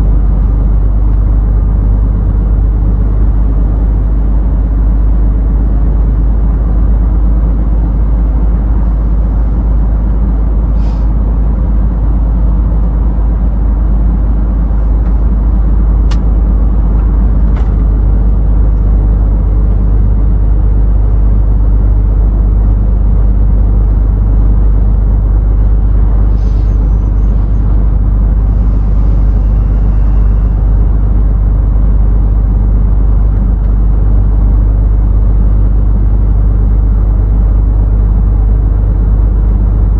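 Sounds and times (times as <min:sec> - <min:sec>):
truck engine drone and road rumble: 0:00.0 - 0:39.9.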